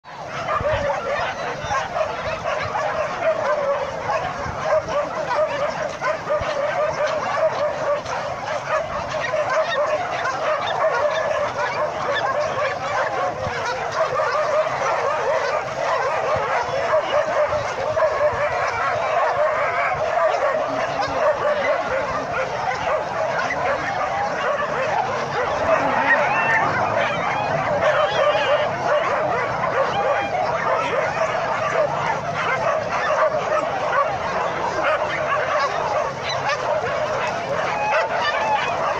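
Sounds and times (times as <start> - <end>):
many dogs barking and yelping: 0.0 - 38.9.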